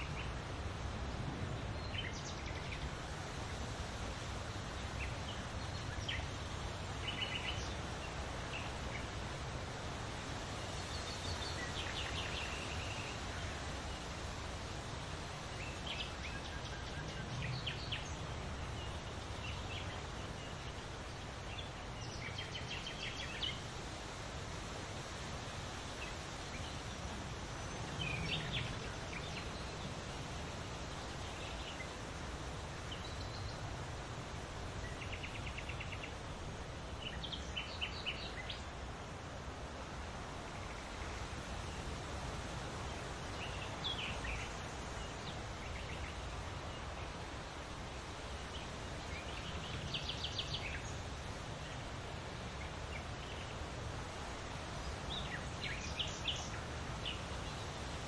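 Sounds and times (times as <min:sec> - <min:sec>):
small birds chirping: 0:00.0 - 0:25.0, 0:25.8 - 0:58.0
wind rustling through leaves: 0:00.0 - 0:58.0.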